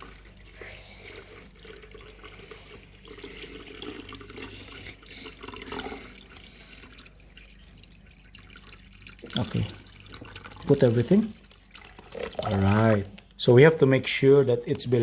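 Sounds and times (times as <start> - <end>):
water pouring into a tank: 0.0 - 13.1.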